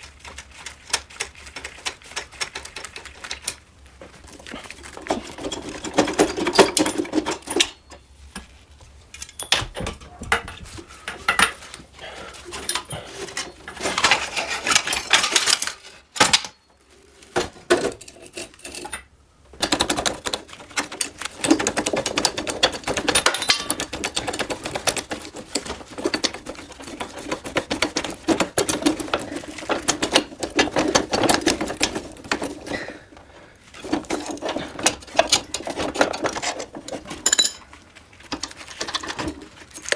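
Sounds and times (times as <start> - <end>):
metal parts and hand tools clattering: 0.9 - 39.9.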